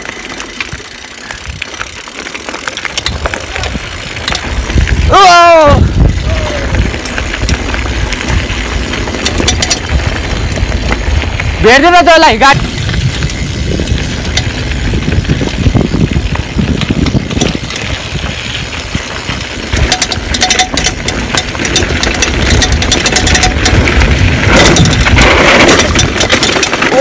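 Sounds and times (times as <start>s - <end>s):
bike rattling clicks: 0.0s - 27.0s
wind rumbling on microphone: 0.6s - 2.0s, 2.9s - 27.0s.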